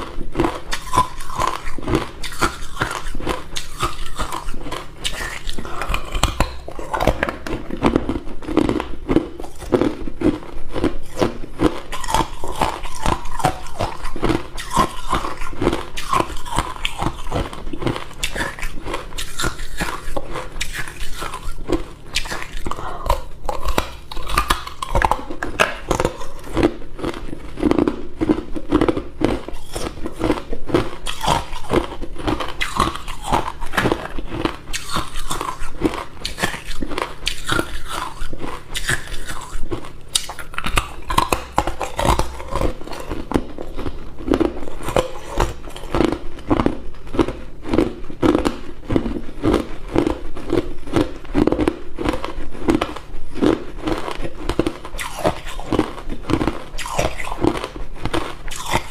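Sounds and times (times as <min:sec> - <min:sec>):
crunching ice cubes in mouth: 0:00.0 - 0:58.9.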